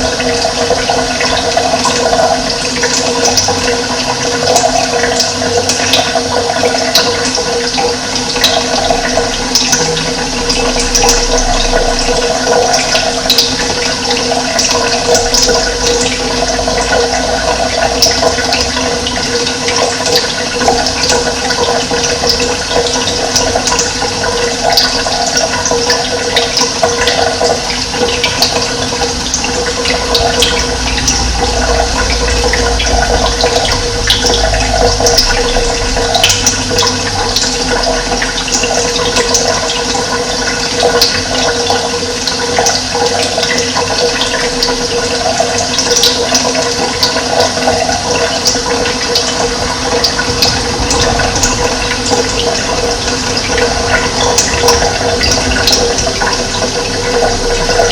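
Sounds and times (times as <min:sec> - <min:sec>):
running water rushing: 0:00.0 - 0:57.9.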